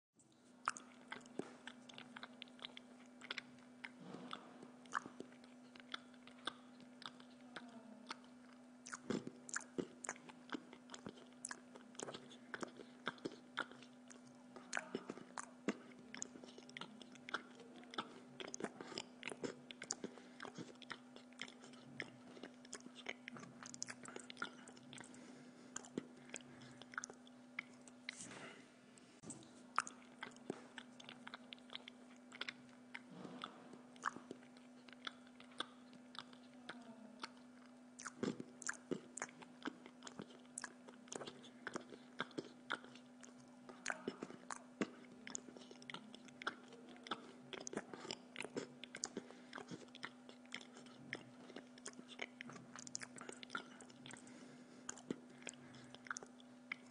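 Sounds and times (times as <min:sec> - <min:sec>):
faint steady hum: 0:00.2 - 0:56.9
man chewing food: 0:00.2 - 0:56.9.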